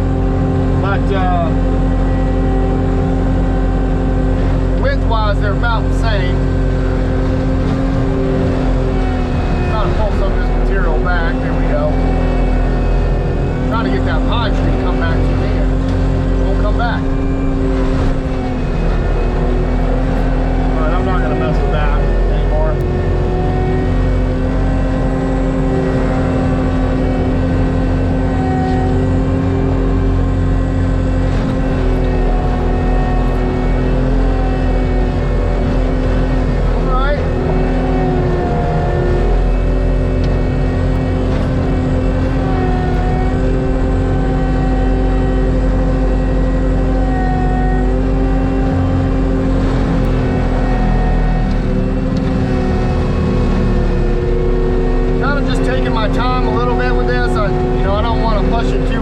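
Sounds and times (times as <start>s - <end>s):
diesel engine at high revs: 0.0s - 59.0s
mulcher drive hum: 0.0s - 59.0s.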